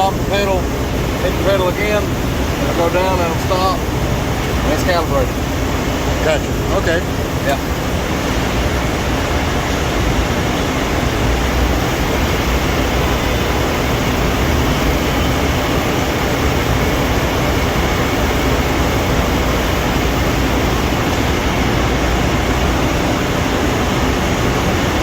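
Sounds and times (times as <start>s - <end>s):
hydraulic pump motor humming: 0.0s - 25.0s.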